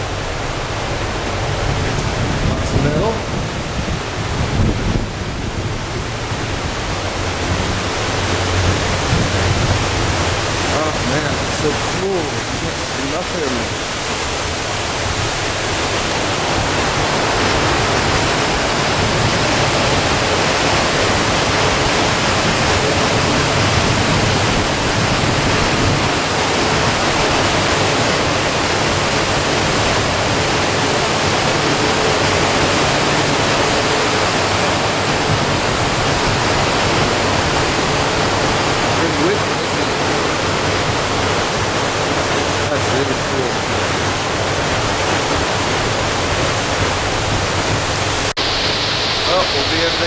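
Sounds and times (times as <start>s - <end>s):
water rushing: 0.0s - 50.0s
wind rushing: 0.0s - 50.0s.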